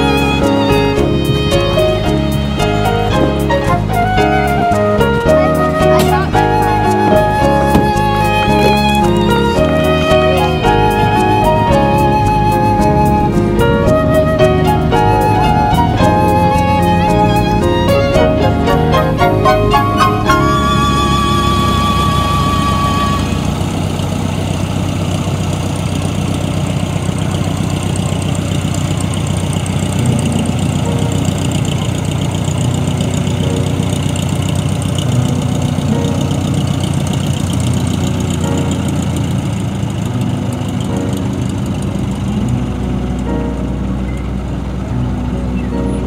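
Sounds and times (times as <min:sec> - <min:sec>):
floatplane engine running: 0:00.0 - 0:46.0.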